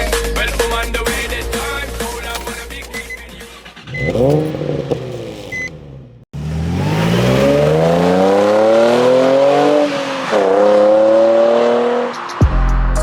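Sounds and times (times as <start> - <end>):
car engine accelerating: 0.4 - 13.0.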